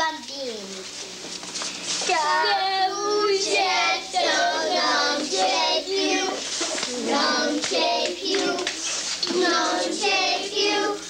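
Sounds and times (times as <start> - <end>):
children singing: 2.1 - 11.0.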